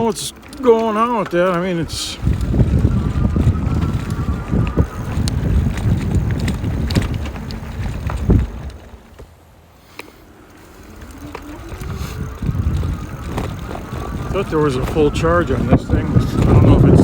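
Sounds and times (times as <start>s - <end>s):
e-bike riding over bumpy road: 0.0s - 17.0s
wind on microphone: 1.2s - 9.0s, 10.9s - 17.0s.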